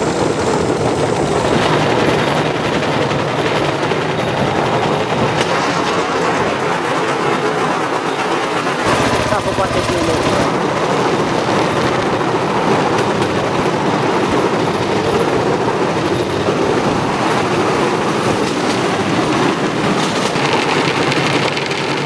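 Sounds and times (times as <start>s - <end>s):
rail cart rattling rumble: 0.0s - 22.0s.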